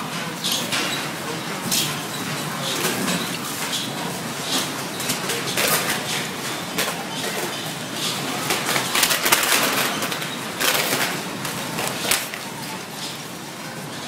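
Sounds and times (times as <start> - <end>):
shelving and merchandise rattling: 0.0 - 14.0.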